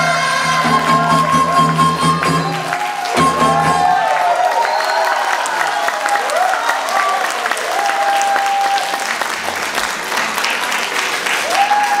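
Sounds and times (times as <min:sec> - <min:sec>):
audience applauding: 0:00.4 - 0:12.0.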